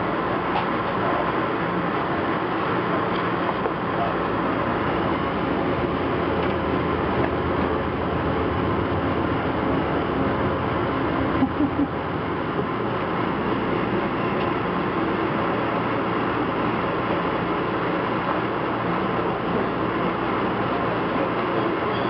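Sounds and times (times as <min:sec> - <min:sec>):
train coach rumble and hum: 0:00.0 - 0:22.0.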